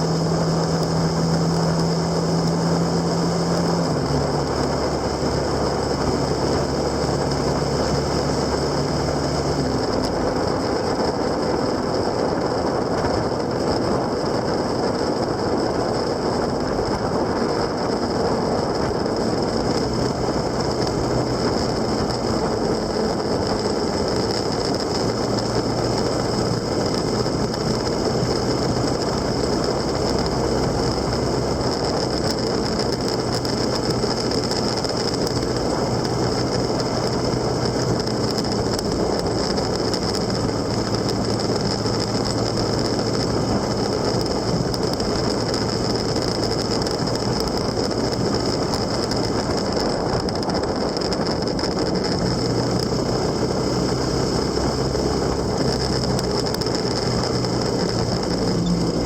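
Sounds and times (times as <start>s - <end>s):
vehicle running drone: 0.0s - 59.0s.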